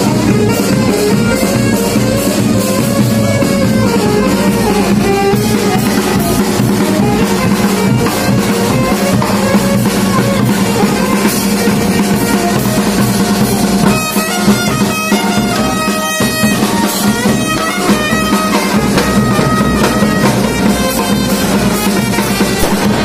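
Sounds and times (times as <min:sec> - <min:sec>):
bagpipes playing: 0:00.0 - 0:23.0
drum beat: 0:00.0 - 0:23.0.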